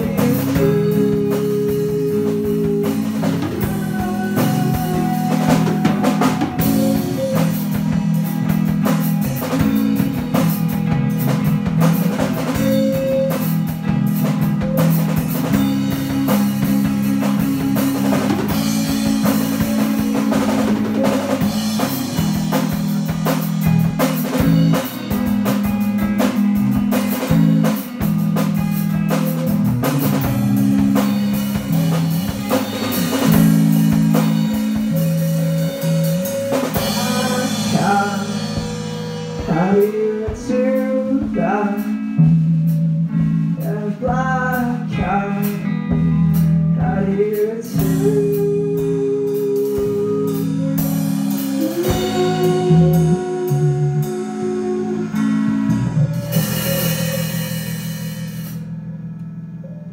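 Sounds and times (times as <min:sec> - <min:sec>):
drum kit beat: 0:00.0 - 0:59.1
electric guitars: 0:00.0 - 0:59.9.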